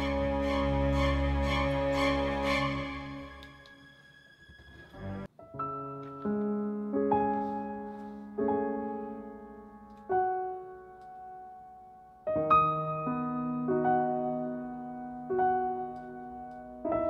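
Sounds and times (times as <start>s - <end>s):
slow piano piece: 0.0s - 17.0s.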